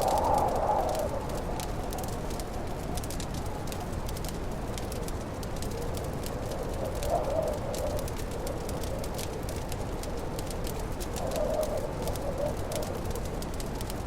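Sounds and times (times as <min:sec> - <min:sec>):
howling snowstorm wind: 0:00.0 - 0:14.0
wood fire crackling and popping: 0:00.0 - 0:14.0.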